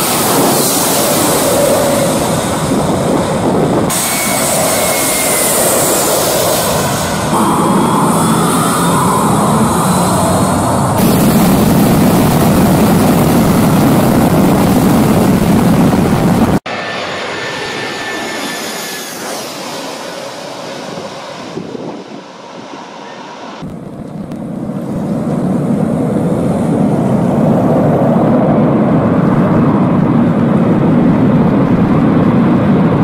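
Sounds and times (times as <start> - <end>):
jet engine roar: 0.0 - 33.0
jet engine whine: 0.0 - 33.0.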